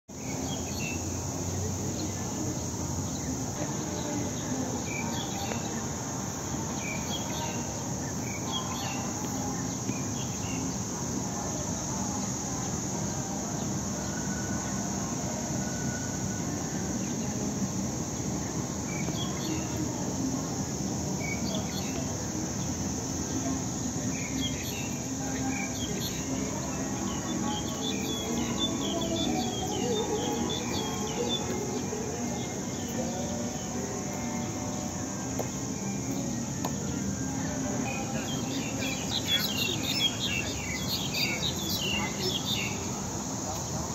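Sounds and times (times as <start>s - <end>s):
insects chirring: 0.1s - 43.9s.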